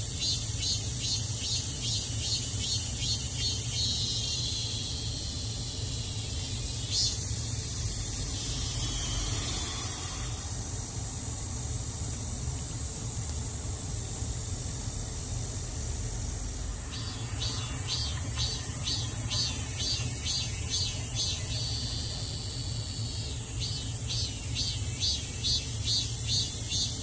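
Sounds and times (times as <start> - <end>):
cicada pulsing call: 0.0 - 11.7, 14.0 - 27.0
cicada chorus: 0.0 - 27.0.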